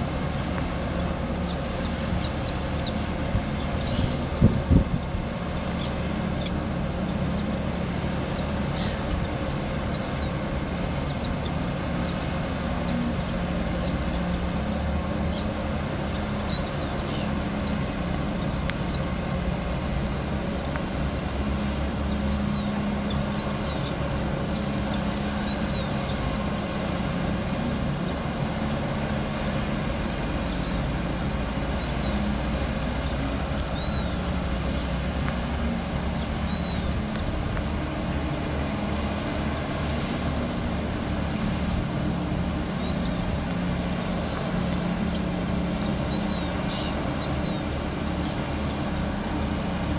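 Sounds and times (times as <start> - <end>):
diesel engine droning: 0.0 - 49.9.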